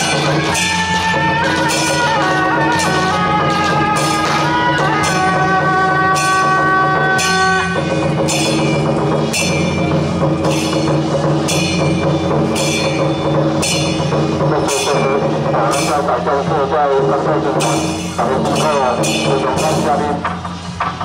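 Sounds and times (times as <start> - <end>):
drums and cymbals: 0.0 - 21.0.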